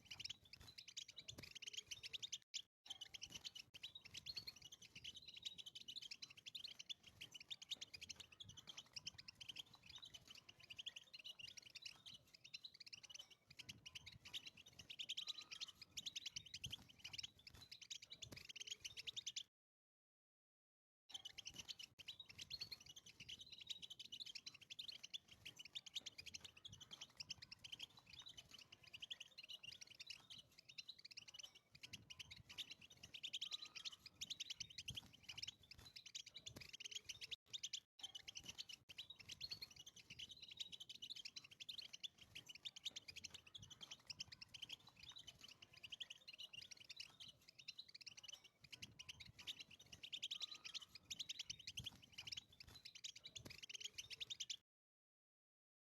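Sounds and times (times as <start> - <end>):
goldfinch twittering song: 0.0 - 19.5, 21.1 - 54.6.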